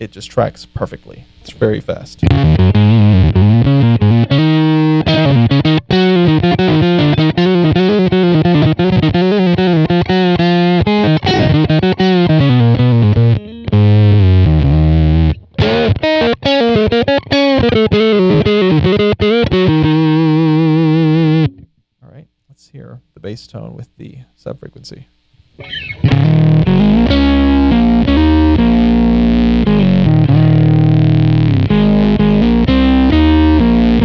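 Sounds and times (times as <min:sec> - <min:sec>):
distorted synth guitar riff: 0:02.2 - 0:21.7, 0:25.6 - 0:34.0.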